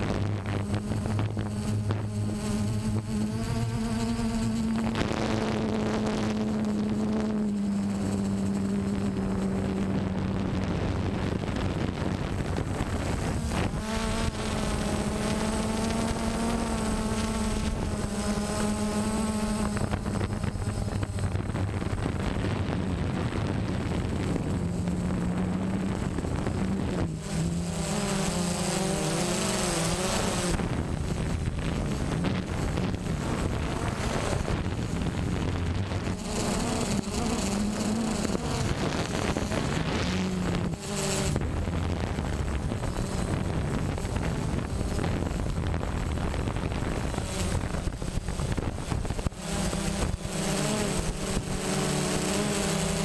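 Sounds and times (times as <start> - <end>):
drone motors buzzing: 0.0 - 53.0
wind on microphone: 0.0 - 53.0.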